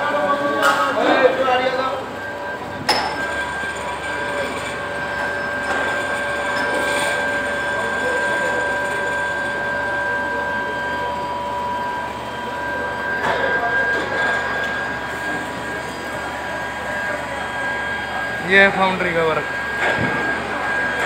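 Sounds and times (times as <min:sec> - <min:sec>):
machinery whining: 0:00.0 - 0:21.0.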